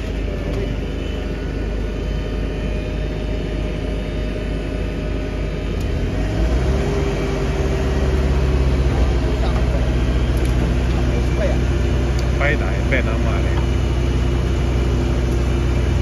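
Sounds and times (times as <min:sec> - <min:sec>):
diesel engine running: 0:00.0 - 0:16.0
hydraulic whine: 0:00.0 - 0:16.0.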